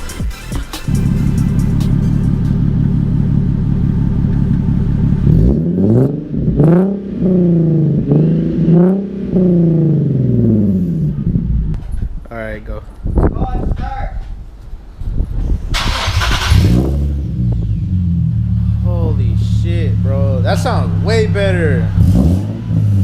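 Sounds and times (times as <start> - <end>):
car engine idling and revving: 0.0 - 12.2, 14.7 - 23.0.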